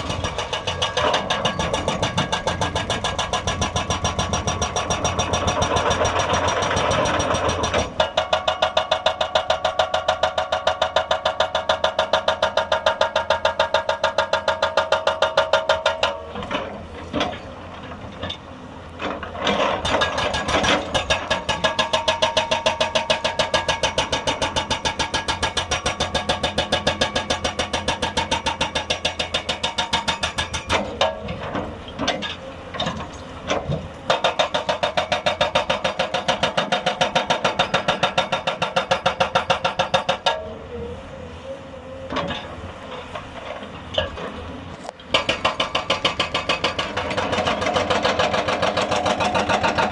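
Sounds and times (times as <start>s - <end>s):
hydraulic breaker hammering rock: 0.0s - 17.5s, 19.0s - 40.6s, 42.1s - 49.9s
excavator engine running: 0.0s - 49.9s.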